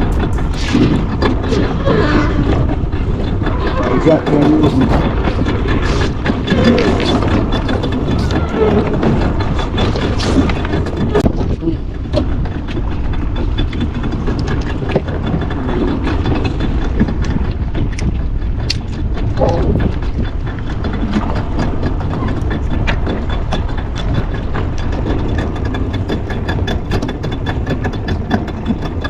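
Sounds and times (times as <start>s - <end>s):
boat engine rumbling: 0.0s - 29.0s
small knocks and clicks: 4.3s - 29.0s.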